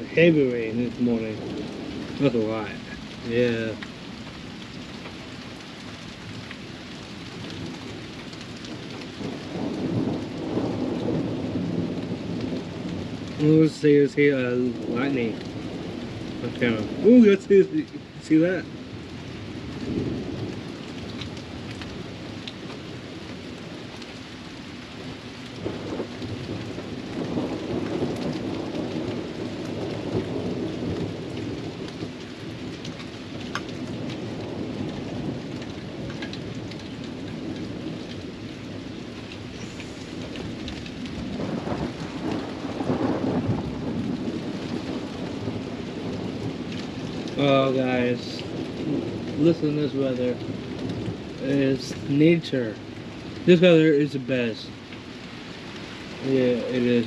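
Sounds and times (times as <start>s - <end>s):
thunder rumbling: 0.0s - 5.6s, 6.2s - 57.0s
heavy rain: 0.0s - 57.0s.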